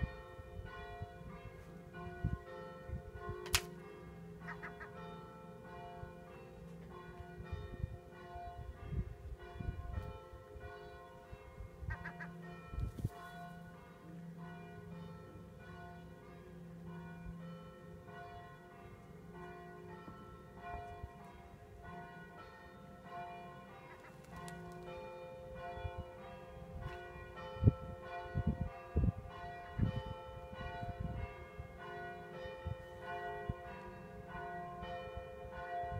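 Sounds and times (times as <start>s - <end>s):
church bells ringing: 0.0s - 35.9s.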